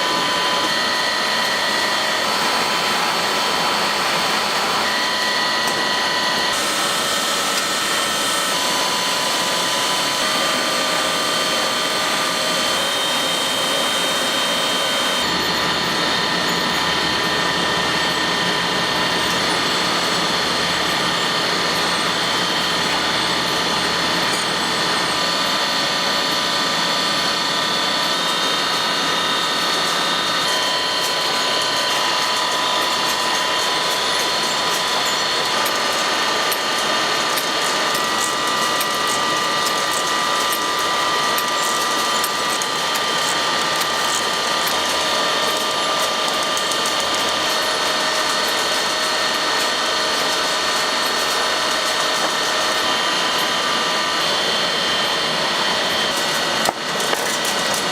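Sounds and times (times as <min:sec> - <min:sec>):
mechanical hum: 0:00.0 - 0:57.9
whining tones: 0:00.0 - 0:57.9.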